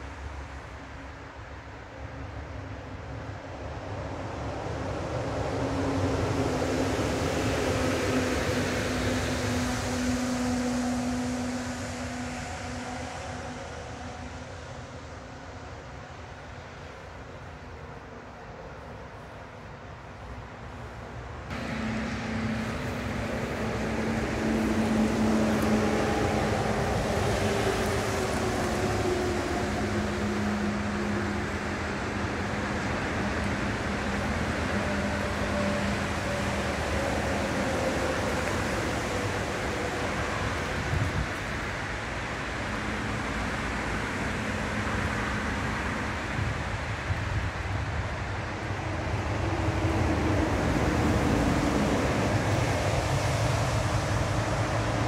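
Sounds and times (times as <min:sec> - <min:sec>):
road noise rumble and hiss: 0:00.0 - 0:55.0
truck engine drone: 0:04.5 - 0:55.0.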